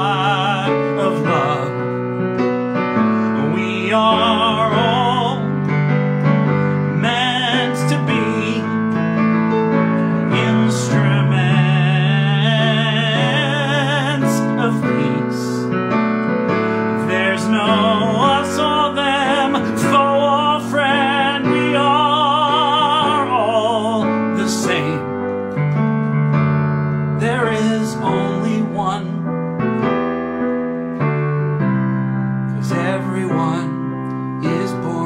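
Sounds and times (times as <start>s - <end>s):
man singing with vibrato: 0.0s - 2.4s, 3.0s - 5.8s, 6.4s - 15.7s, 16.7s - 25.6s, 27.2s - 29.4s, 32.5s - 35.0s
keyboard chords: 0.0s - 35.0s.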